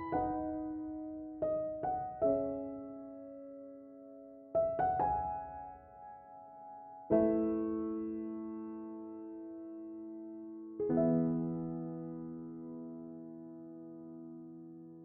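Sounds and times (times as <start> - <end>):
soft slow piano: 0.0 - 15.0.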